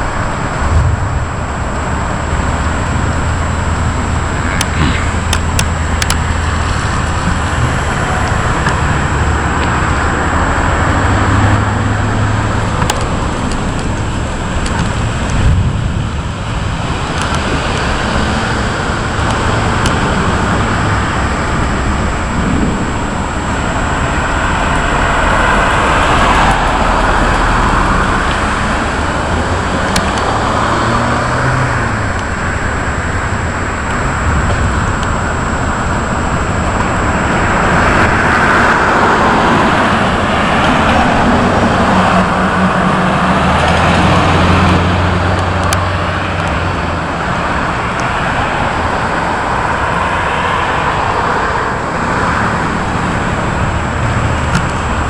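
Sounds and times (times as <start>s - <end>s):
low engine hum: 0.0s - 55.0s
rushing road traffic: 0.0s - 55.0s
thunderstorm: 0.0s - 55.0s
vehicles passing: 0.0s - 55.0s.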